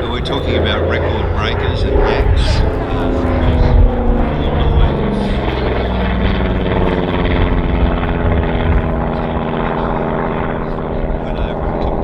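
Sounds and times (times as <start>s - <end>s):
radial engine and propeller drone: 0.0s - 12.0s.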